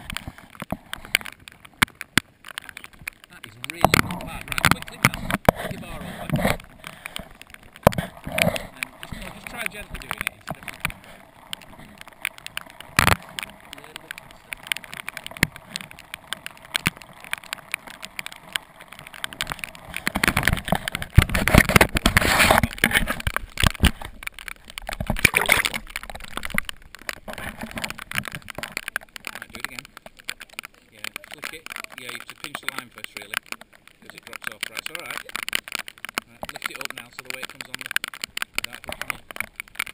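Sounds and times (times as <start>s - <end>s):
water sloshing around kayak: 0.0s - 32.0s
clicks and knocks: 0.0s - 39.9s
rubbing and handling noise: 0.0s - 39.9s.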